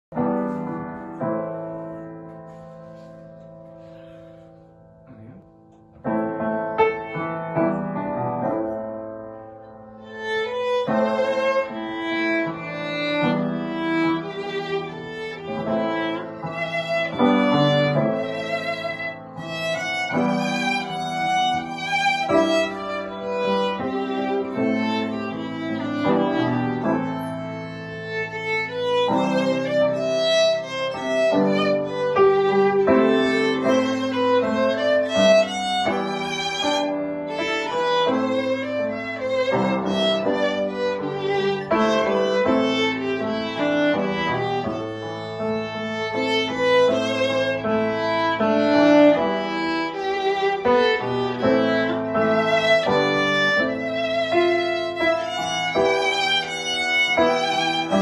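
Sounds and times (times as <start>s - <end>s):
grand piano accompaniment: 0.0s - 58.0s
violin melody with vibrato: 10.0s - 58.0s.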